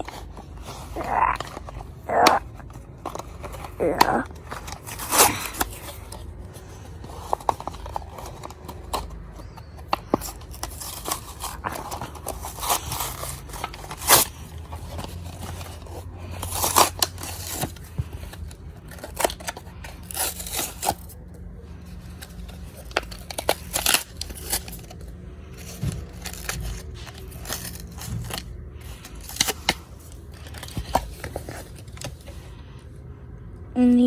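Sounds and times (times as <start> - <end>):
plastic packaging torn open: 0.0 - 21.2, 22.0 - 32.2.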